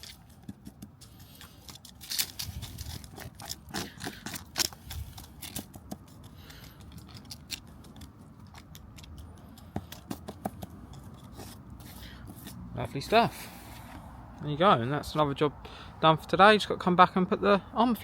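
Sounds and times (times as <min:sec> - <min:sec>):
soil crunching and scraping: 0:00.0 - 0:15.4.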